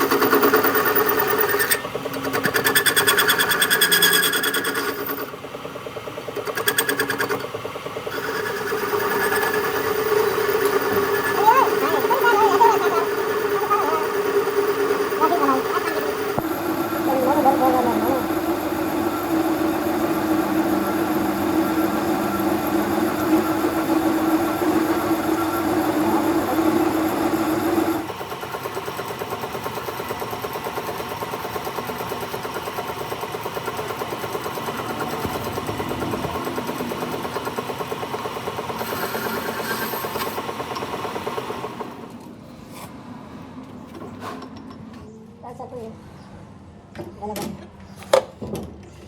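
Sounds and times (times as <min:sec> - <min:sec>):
workshop machine humming: 0:00.0 - 0:45.4.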